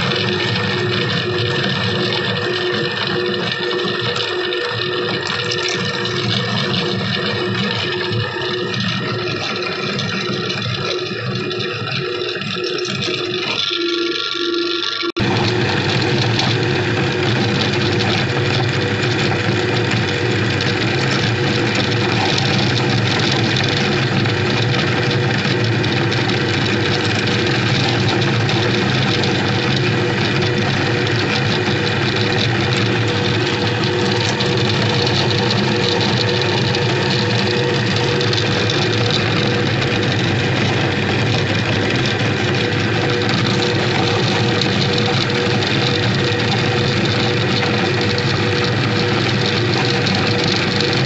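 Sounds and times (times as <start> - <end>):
candy grinding: 0.0 - 51.0
meat grinder motor hum: 0.0 - 51.0.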